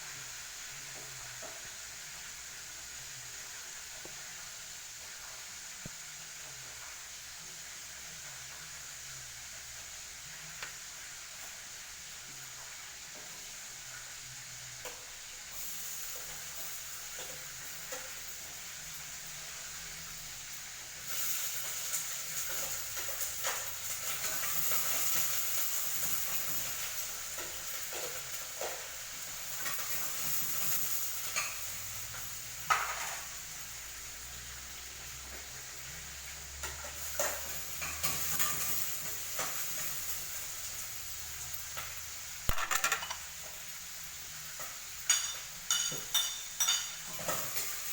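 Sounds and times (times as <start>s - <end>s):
food sizzling in a frying pan: 0.0s - 47.9s.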